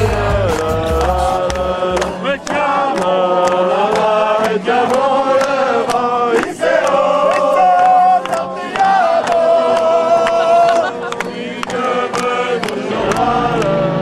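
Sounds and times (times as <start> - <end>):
group chanting in chorus: 0.0 - 14.0
sharp rhythmic clicks: 0.1 - 14.0.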